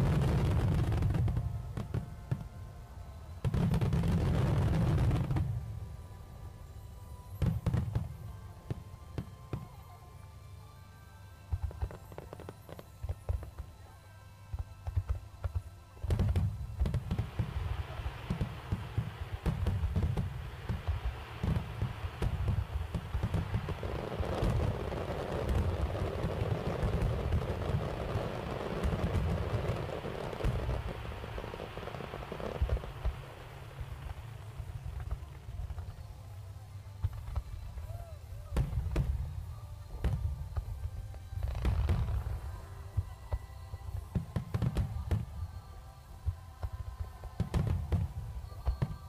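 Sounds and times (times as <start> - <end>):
fireworks bursting and booming: 0.0 - 5.8, 7.4 - 9.7, 14.5 - 49.0.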